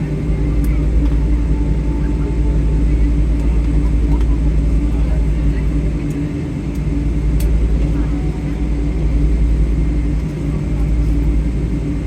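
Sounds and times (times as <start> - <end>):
aircraft cabin rumble and hum: 0.0 - 12.0.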